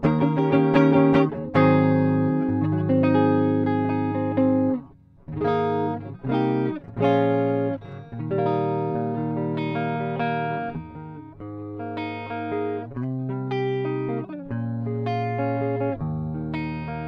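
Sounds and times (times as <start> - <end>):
electric guitar chords strummed: 0.0 - 17.0.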